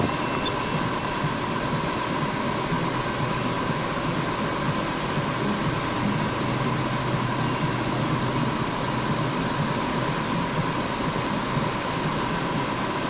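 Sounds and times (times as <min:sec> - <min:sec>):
steady high tone: 0:00.0 - 0:13.0
train wheels rolling on rails: 0:00.0 - 0:13.0.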